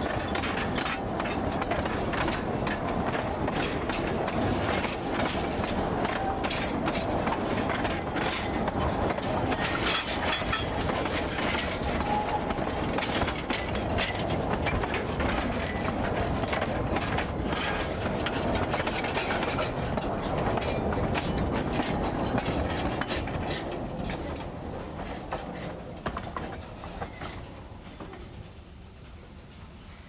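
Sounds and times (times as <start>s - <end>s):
wheels clattering over rail joints: 0.0s - 28.6s
diesel locomotive engine: 0.0s - 30.0s.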